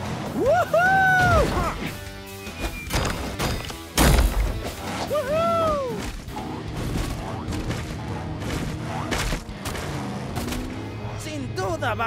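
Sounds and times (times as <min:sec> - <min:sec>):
cartoon background music: 0:00.0 - 0:10.5.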